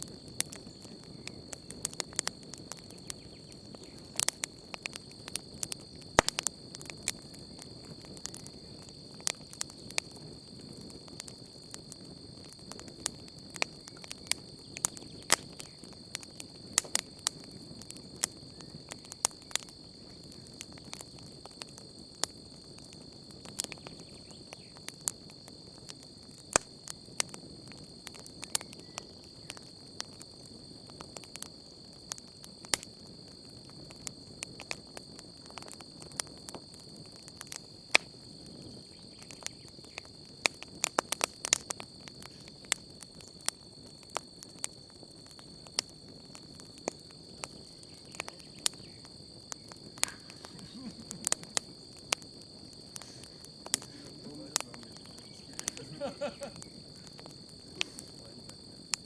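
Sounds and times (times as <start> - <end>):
campfire crackling and popping: 0.0 - 59.0
night insects chirring: 0.0 - 59.0.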